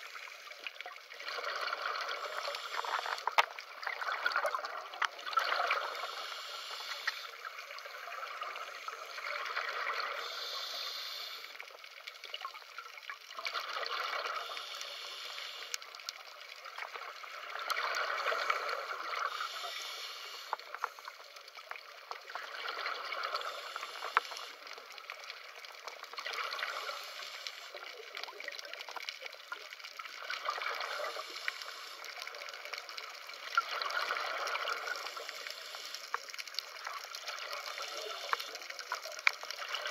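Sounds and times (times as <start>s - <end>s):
exhaled bubbles underwater: 0.0s - 10.9s, 12.2s - 15.0s, 16.3s - 35.8s, 36.4s - 39.9s.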